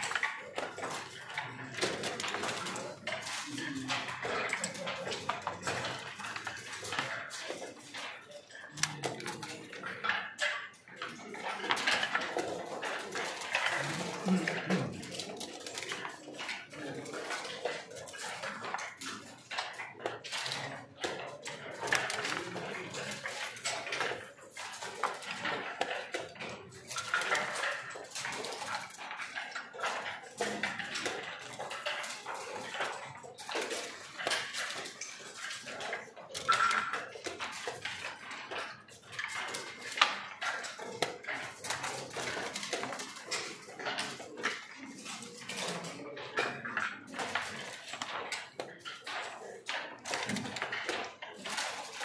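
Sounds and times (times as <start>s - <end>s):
game pieces clicking on board: 0.0s - 52.0s.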